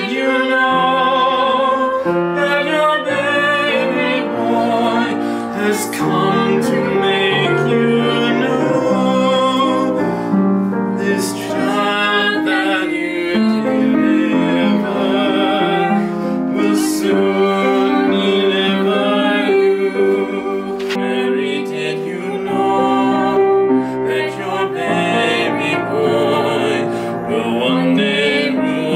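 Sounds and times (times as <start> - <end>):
man and woman singing: 0.0 - 10.3, 11.0 - 28.9
grand piano: 0.0 - 28.9.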